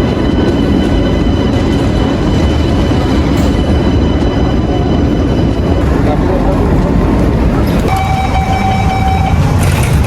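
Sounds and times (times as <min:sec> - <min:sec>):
train rumbling inside carriage: 0:00.0 - 0:10.0.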